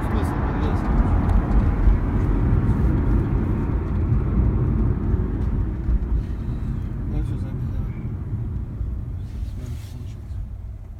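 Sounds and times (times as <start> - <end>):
road and engine rumble: 0.0 - 10.9.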